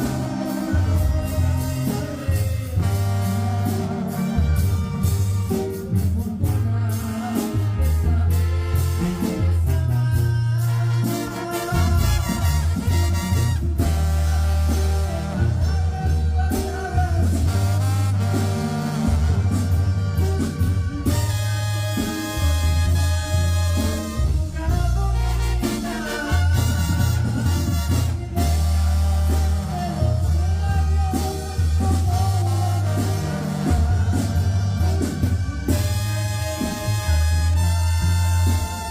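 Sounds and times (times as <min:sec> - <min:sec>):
brass band playing: 0:00.0 - 0:38.9
steady drum beat: 0:00.0 - 0:38.9
tuba bass line: 0:00.0 - 0:38.9.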